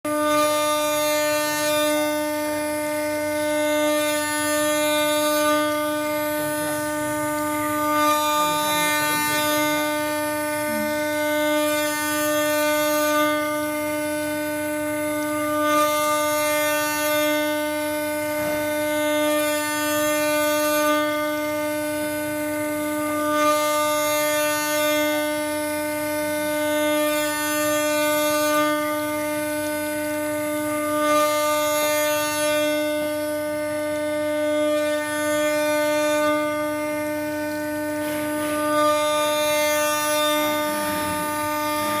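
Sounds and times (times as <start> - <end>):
engraving machine spindle whine: 0.1 - 42.0.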